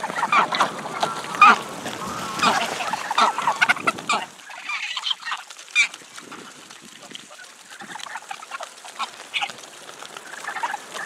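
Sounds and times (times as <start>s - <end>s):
geese honking and cackling: 0.0s - 11.0s.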